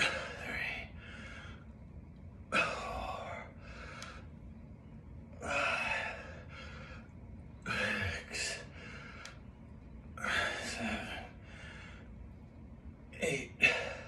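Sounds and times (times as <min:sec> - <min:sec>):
man breathing heavily: 0:00.0 - 0:04.6, 0:05.3 - 0:12.5, 0:13.3 - 0:14.0.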